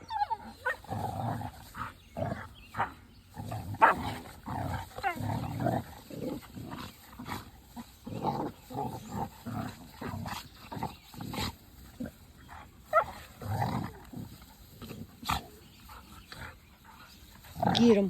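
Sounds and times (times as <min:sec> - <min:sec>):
dogs growling: 0:00.0 - 0:18.0.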